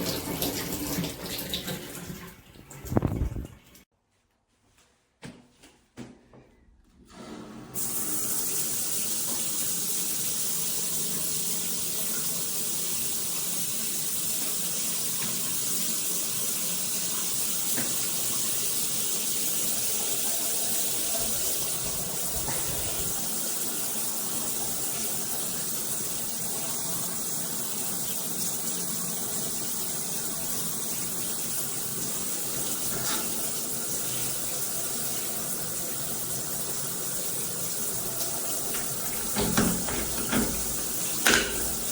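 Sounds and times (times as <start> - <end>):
shower head spraying water: 7.8 - 41.9.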